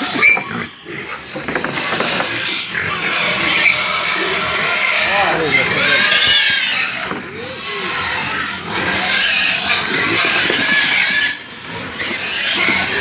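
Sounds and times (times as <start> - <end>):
pigs squealing: 0.0 - 13.0.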